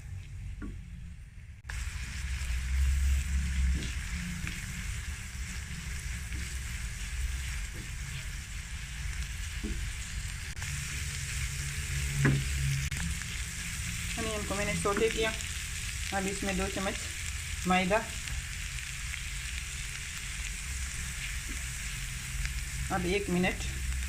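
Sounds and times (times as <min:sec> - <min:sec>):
low steady hum: 0:00.0 - 0:24.0
onion sizzling in butter: 0:01.6 - 0:24.0.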